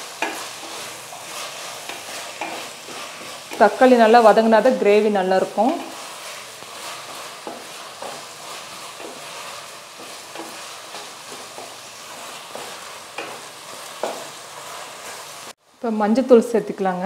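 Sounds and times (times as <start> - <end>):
wooden spatula scraping pot: 0.0 - 15.6
vegetables sizzling in oil: 0.0 - 16.9.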